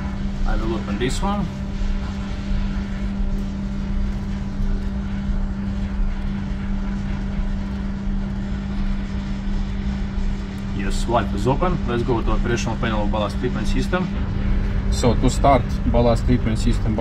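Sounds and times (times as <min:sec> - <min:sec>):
constant hum: 0:00.0 - 0:17.0
low rumble of shipboard machinery: 0:00.0 - 0:17.0.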